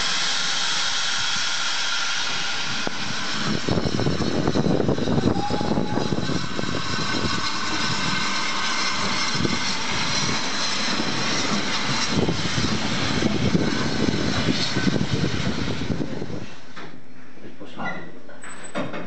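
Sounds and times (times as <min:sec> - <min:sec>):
steam hissing: 0:00.0 - 0:16.8
steam locomotive rumble and exhaust: 0:00.0 - 0:18.3.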